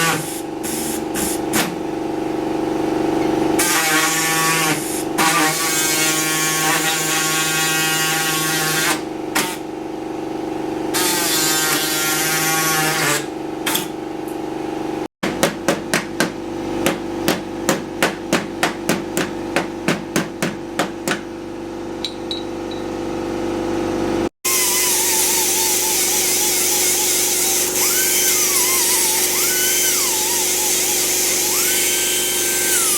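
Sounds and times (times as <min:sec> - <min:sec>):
mechanical hum: 0:00.0 - 0:32.9.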